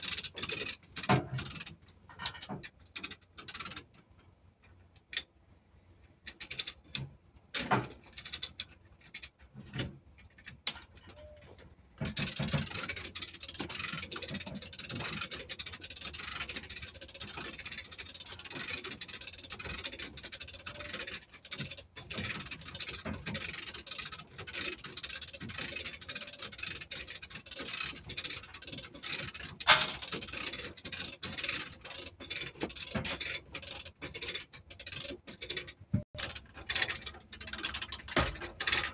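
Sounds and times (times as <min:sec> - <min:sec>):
chain hoist ratcheting: 0:00.0 - 0:04.0, 0:06.2 - 0:38.9.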